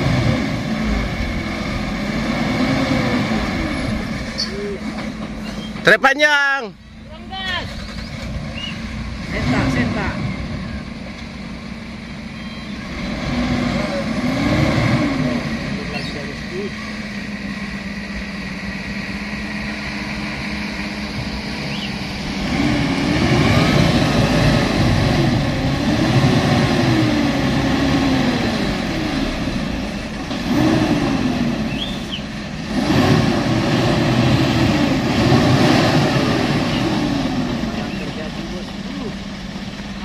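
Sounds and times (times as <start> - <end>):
truck diesel engine revving: 0.0 - 40.0.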